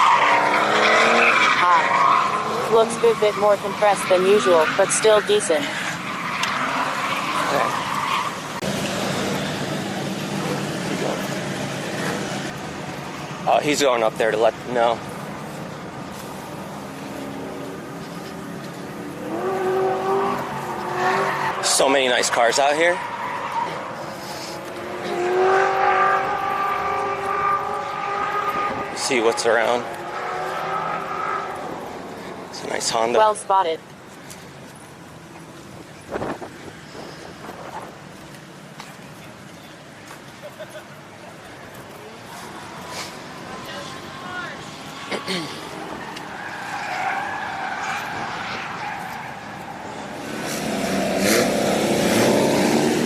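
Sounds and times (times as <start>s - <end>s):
car engine at high revs: 0.0s - 33.8s, 42.2s - 53.0s.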